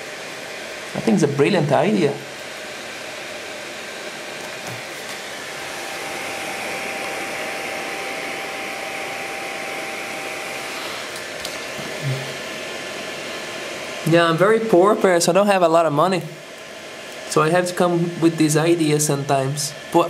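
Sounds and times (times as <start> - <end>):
small computer fan whirring: 0.0 - 20.0.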